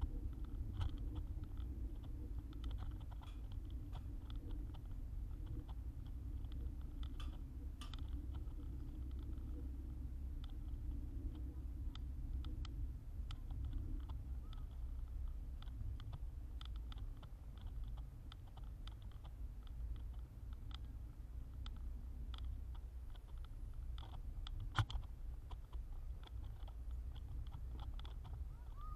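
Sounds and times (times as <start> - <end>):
bicycle rolling on paved path: 0.0 - 28.9
light clicks and rattles: 0.0 - 28.9.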